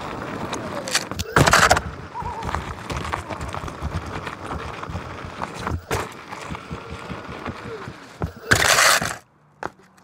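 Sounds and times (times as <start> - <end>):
tire rolling rumble on pavement: 0.0 - 10.0.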